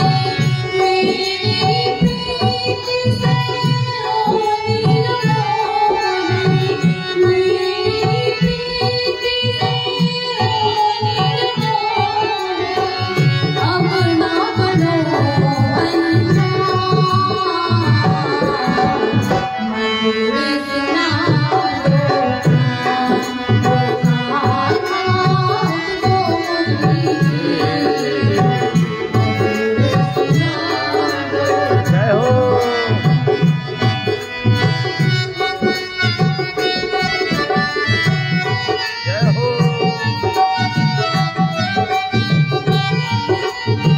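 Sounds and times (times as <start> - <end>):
tabla playing a rhythm: 0.0 - 43.9.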